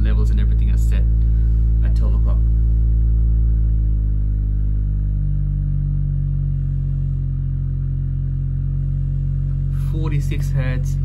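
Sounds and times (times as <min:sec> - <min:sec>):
low bass test tone: 0:00.0 - 0:11.0.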